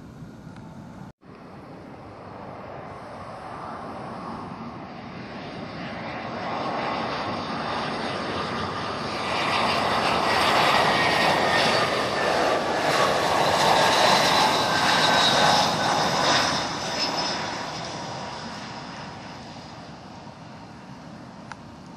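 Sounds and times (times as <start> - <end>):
high turbine whine: 0.0 - 21.9
jet airliner passing: 0.0 - 21.9.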